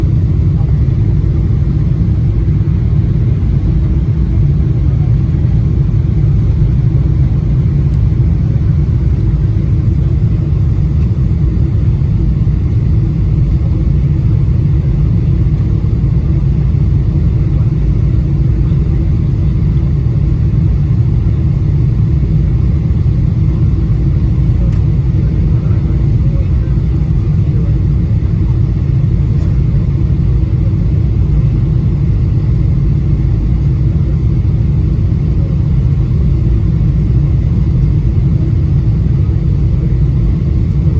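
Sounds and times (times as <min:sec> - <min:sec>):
jet engine and airflow rumble: 0:00.0 - 0:40.9.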